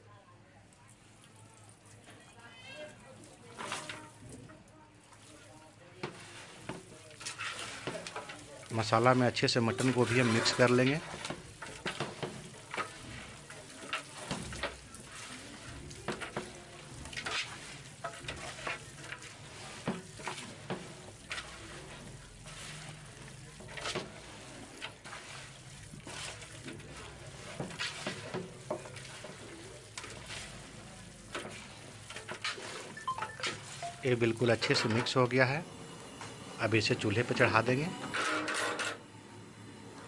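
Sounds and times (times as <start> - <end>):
meat mixed by hand in pot: 0.6 - 40.0.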